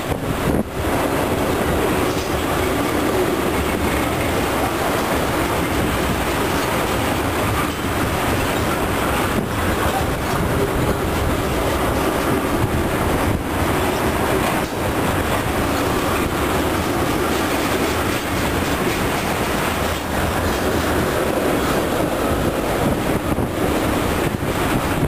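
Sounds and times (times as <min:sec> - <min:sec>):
train wheels clattering on rails: 0:00.0 - 0:25.0.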